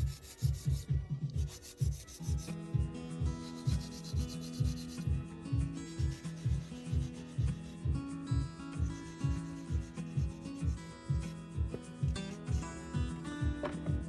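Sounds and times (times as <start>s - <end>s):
nail file rasping: 0.0s - 2.6s, 3.4s - 8.0s, 8.7s - 13.2s.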